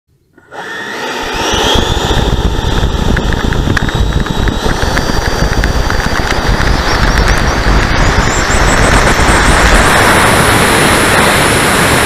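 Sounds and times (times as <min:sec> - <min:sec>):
electric ducted fans whining: 0:00.2 - 0:12.0
wind rumble: 0:01.2 - 0:12.0.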